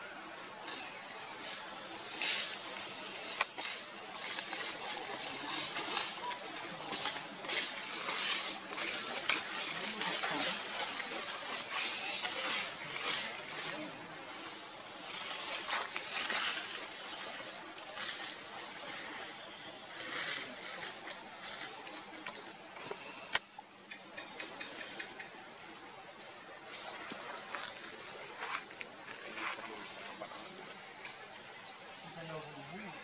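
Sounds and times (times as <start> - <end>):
insects shrilling: 0.0 - 33.0.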